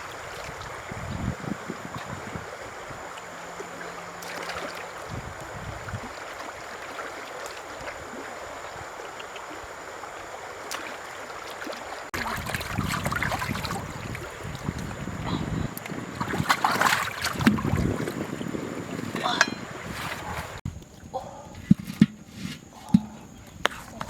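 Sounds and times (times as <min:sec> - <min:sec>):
running water rushing: 0:00.0 - 0:20.6
choppy water noise: 0:00.0 - 0:24.0.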